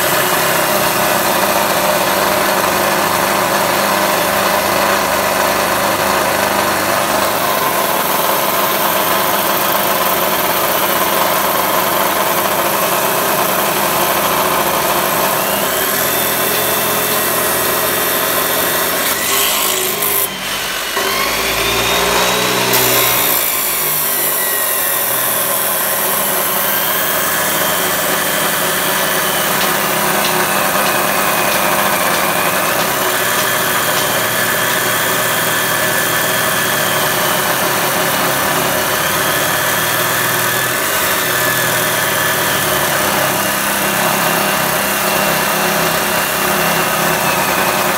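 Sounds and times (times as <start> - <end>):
chop saw grinding metal: 0.0 - 47.9
saw wheel spinning free: 0.0 - 47.9.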